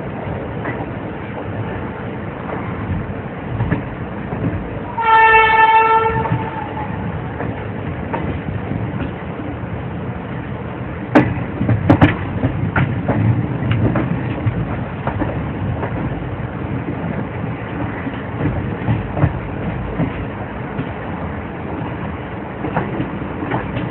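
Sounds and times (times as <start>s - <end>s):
train wheels rumbling on rails: 0.0s - 23.9s
sharp clacks of train wheels: 2.4s - 9.3s, 11.1s - 23.9s.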